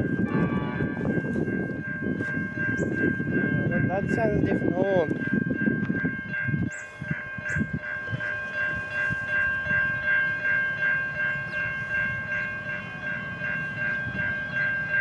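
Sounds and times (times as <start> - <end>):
diesel train rumbling past: 0.0 - 15.0
pulsing high ringing tone: 0.0 - 15.0.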